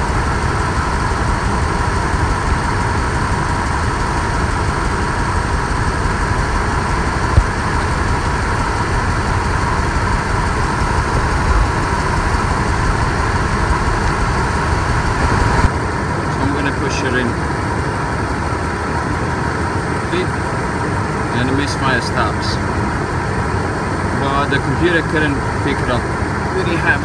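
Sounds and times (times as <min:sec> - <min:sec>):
misfiring engine idling: 0:00.0 - 0:27.0.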